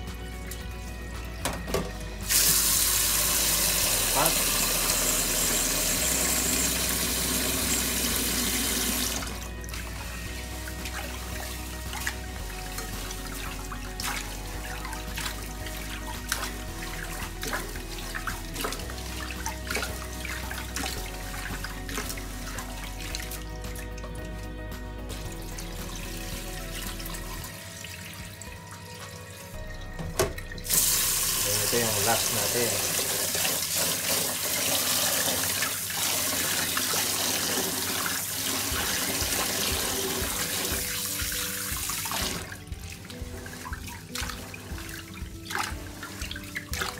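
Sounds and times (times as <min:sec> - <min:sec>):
background music: 0:00.0 - 0:46.9
water sloshing in a pot: 0:00.1 - 0:46.9
water pouring into a metal sink: 0:02.2 - 0:24.4, 0:25.0 - 0:46.9.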